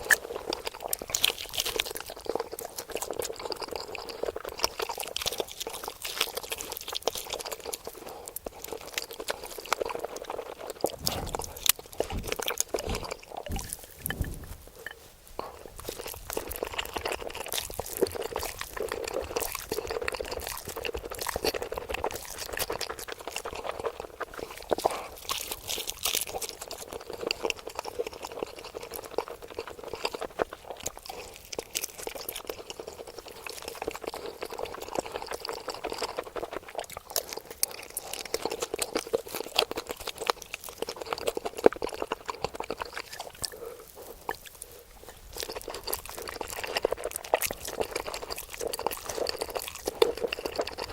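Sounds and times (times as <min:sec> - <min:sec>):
person chewing and slurping: 0:00.0 - 0:50.9.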